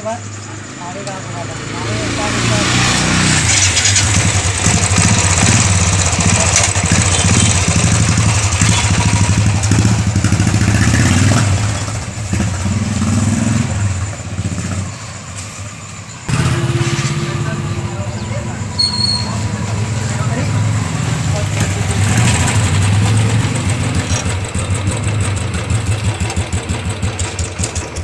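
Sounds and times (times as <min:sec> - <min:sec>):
motorcycle engine running: 0:01.0 - 0:15.3, 0:16.3 - 0:28.0.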